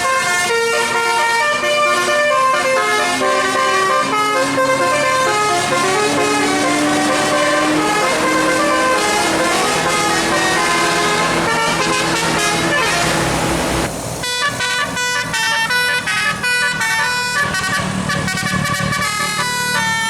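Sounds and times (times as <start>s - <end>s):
bus engine running: 0.0s - 20.0s
bus musical air horn: 0.0s - 20.0s.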